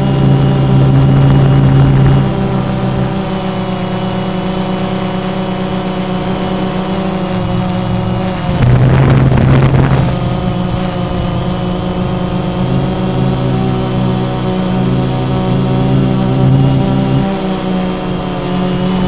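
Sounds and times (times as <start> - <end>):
drone propellers whining: 0.0 - 19.0
rush of noise: 0.0 - 19.0.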